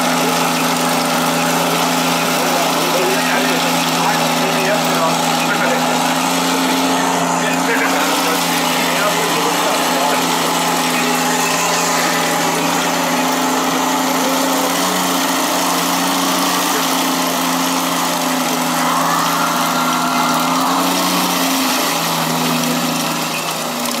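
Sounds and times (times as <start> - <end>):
low engine idle hum: 0.0 - 24.0
higher whine: 1.0 - 24.0.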